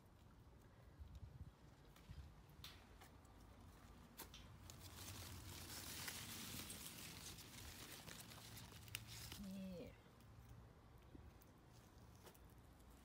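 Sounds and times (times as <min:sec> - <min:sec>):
leaves rustling and crinkling: 0:01.1 - 0:13.0.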